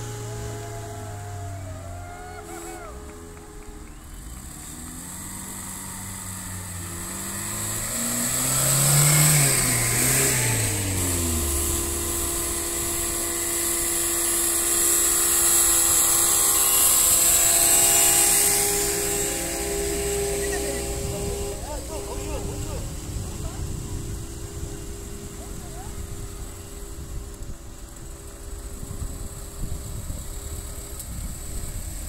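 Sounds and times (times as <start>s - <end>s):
engine hum of vehicles: 0.0s - 32.0s.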